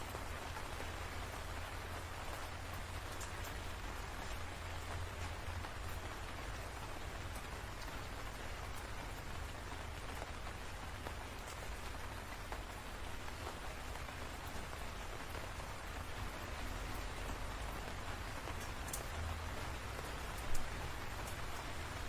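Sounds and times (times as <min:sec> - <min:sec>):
raindrop ticks: 0:00.0 - 0:22.0
steady rainfall: 0:00.0 - 0:22.0.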